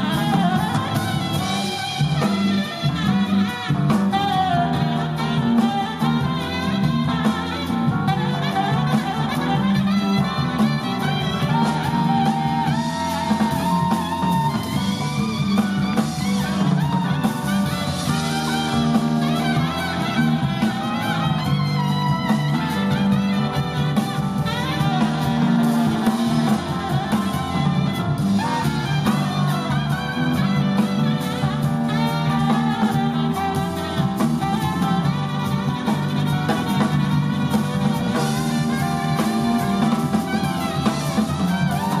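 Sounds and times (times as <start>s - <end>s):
drum kit: 0.0s - 42.0s
jazz band horns: 0.0s - 42.0s.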